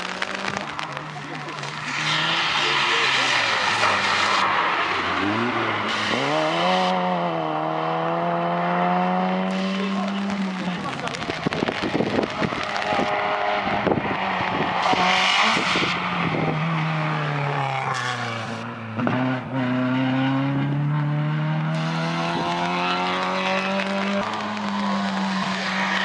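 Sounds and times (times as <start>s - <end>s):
rally car engine at full throttle: 0.0s - 26.0s.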